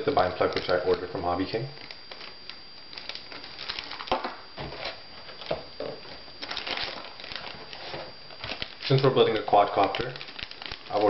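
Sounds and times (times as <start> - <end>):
plastic bags and cardboard rustling: 0.0 - 11.0.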